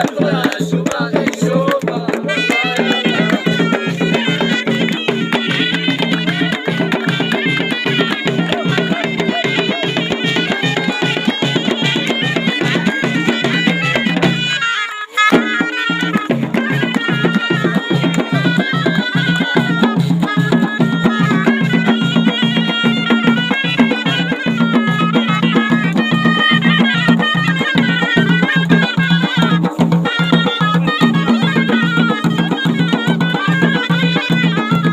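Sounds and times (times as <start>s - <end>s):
reedy shawm melody: 0.0s - 34.9s
steady drum beat: 0.0s - 34.9s.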